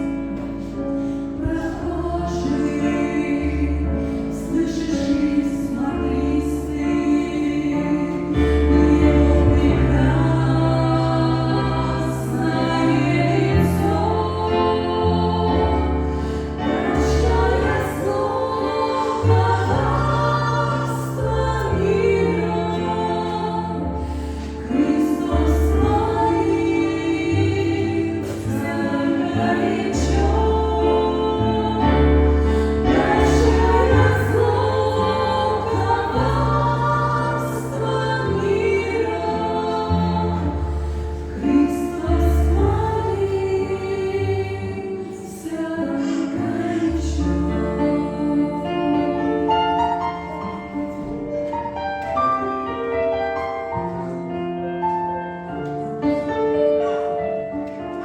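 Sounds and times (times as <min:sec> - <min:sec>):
choir singing: 0:00.0 - 0:51.1.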